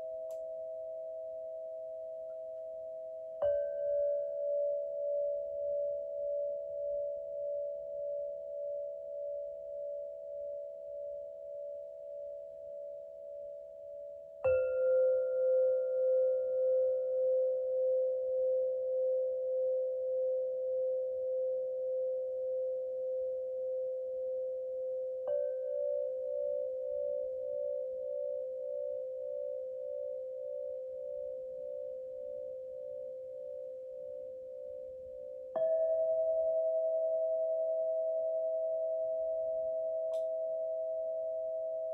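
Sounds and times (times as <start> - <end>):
singing bowls ringing: 0.0 - 41.9.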